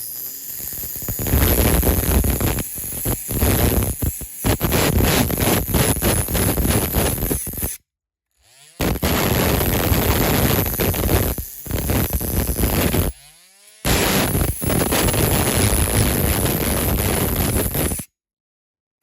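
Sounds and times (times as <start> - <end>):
rotary tool grinding metal: 0.0 - 18.1.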